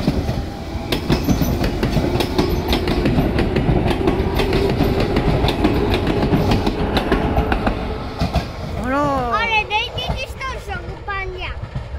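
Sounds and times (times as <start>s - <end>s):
train low rumble: 0.0s - 11.9s
train wheels clattering over joints: 0.0s - 11.9s.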